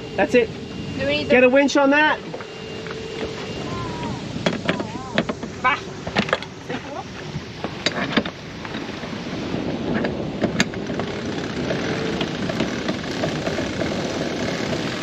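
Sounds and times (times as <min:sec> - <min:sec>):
rush of wind and water: 0:00.0 - 0:15.0
wind buffeting microphone: 0:00.0 - 0:15.0.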